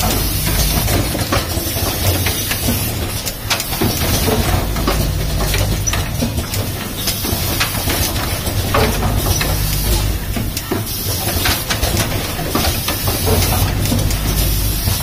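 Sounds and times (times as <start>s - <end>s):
machine humming and hissing: 0.0s - 15.0s
machine parts clicking and knocking: 0.0s - 15.0s.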